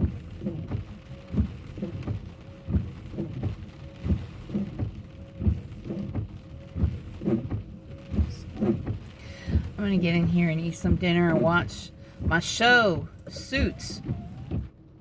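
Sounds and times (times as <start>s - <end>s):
road noise: 0.0s - 15.0s
steady rain: 0.0s - 15.0s
windshield wipers thumping: 0.0s - 15.0s.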